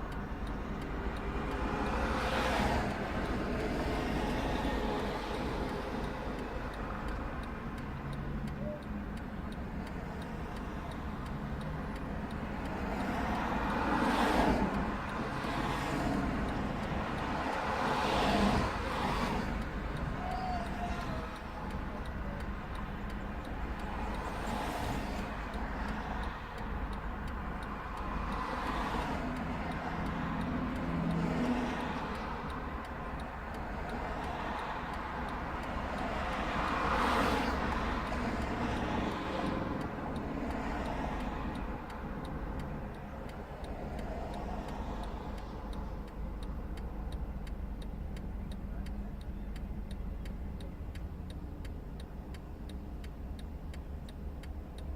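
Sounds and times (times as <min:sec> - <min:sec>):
faint regular ticking: 0:00.0 - 0:54.9
traffic passing: 0:00.0 - 0:54.9
vehicle engine rumble: 0:00.0 - 0:54.9.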